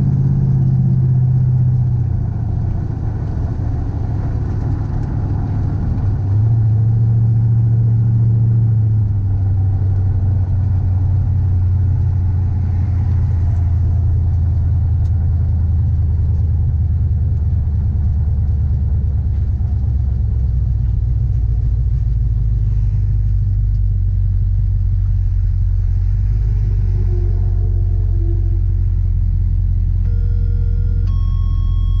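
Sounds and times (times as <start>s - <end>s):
truck engine and tyre rumble: 0.0s - 32.0s.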